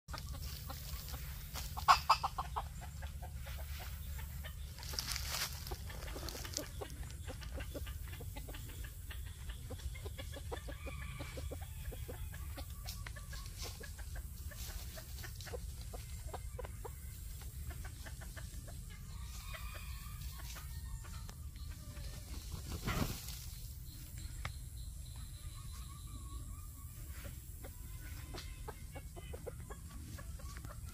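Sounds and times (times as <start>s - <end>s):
rooster clucking: 0.1s - 23.4s, 25.1s - 30.9s.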